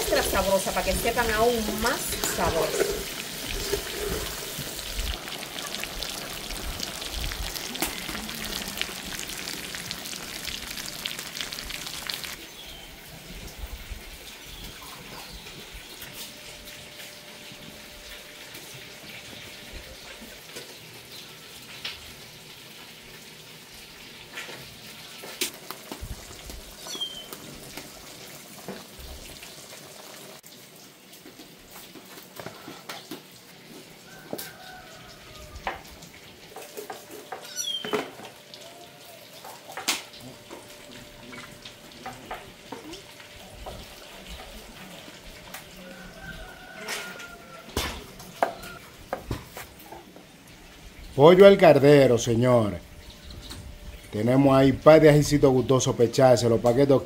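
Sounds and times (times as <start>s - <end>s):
meat frying in hot oil: 0.0s - 57.0s.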